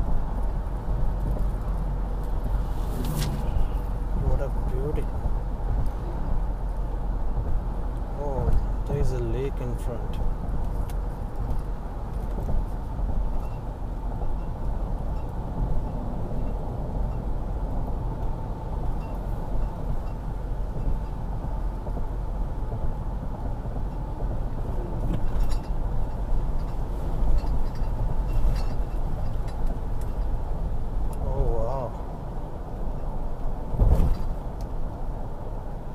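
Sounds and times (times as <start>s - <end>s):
vehicle road and engine rumble: 0.0s - 35.9s.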